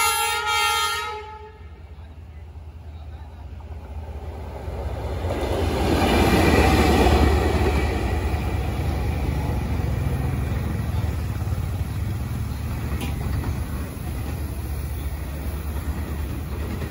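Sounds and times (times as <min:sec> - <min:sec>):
locomotive engine rumble: 0:00.0 - 0:16.9.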